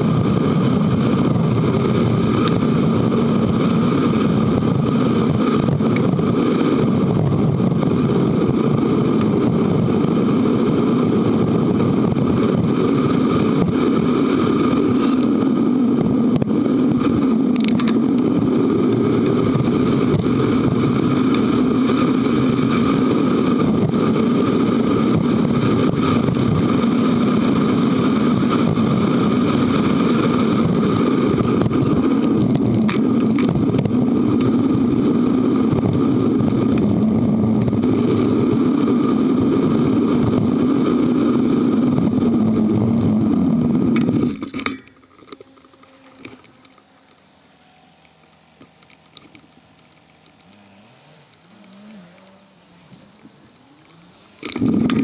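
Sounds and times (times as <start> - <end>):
distant traffic: 0.0 - 55.0
wind and road noise: 0.0 - 55.0.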